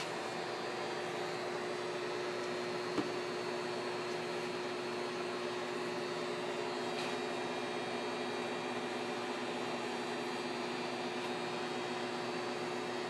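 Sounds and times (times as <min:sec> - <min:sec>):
ventilation hum and hiss: 0:00.0 - 0:13.0.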